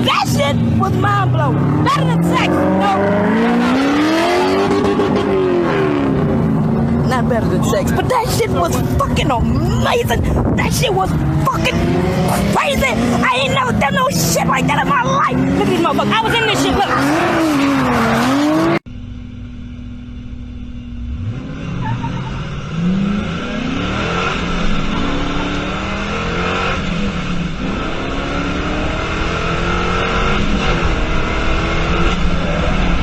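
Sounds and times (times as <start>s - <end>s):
car engine revving hard: 0.0s - 9.3s, 10.1s - 18.9s, 21.0s - 33.0s.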